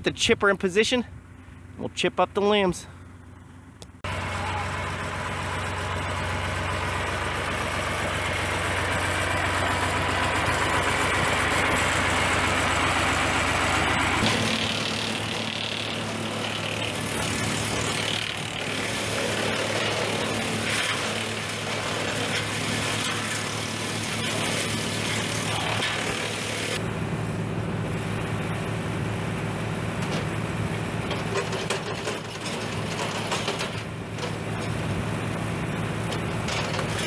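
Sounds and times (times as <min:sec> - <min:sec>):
diesel tractor engine running: 0:00.0 - 0:37.0
wood chipper humming: 0:02.4 - 0:37.0.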